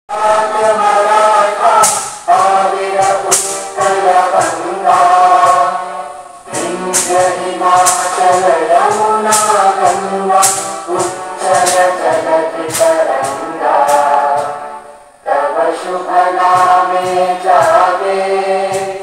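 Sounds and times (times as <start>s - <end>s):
group singing in unison: 0.1s - 19.0s.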